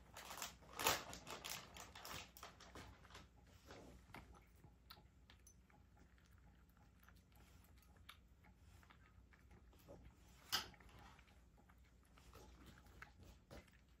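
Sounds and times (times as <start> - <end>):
cat chewing food: 1.3 - 14.0.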